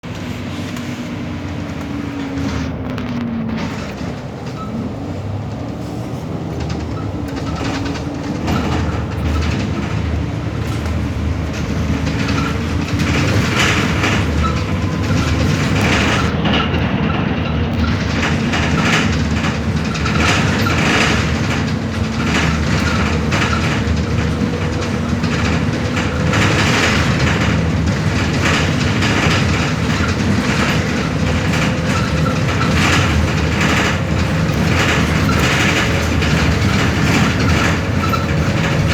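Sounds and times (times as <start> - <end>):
bus body rattling and knocking: 0.0 - 38.9
bus engine hum: 0.0 - 38.9
road noise: 0.0 - 38.9.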